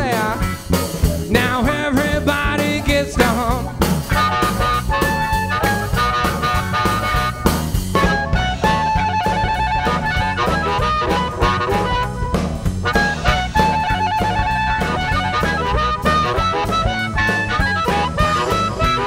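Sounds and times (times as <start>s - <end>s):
bass guitar: 0.0s - 19.0s
drum kit: 0.0s - 19.0s
harmonica lead: 0.0s - 19.0s.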